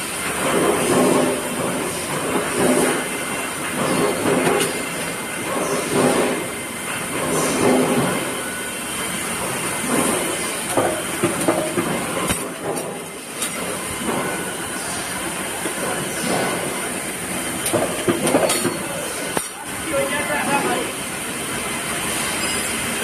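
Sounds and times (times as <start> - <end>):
machinery hiss and whine: 0.0 - 23.0.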